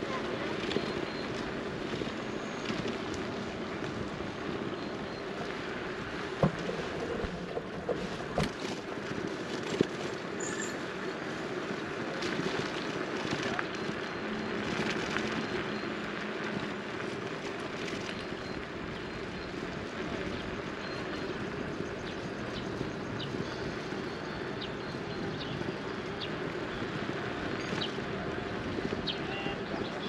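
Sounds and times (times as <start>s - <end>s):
vehicle engine hum and road noise: 0.0s - 30.0s.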